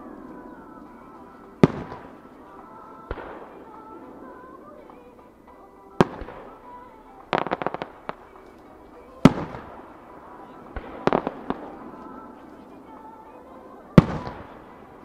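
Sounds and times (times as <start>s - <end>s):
crackling firework pops: 0.0s - 15.0s
faint music: 0.0s - 15.0s
fireworks bangs with echo: 0.0s - 15.0s.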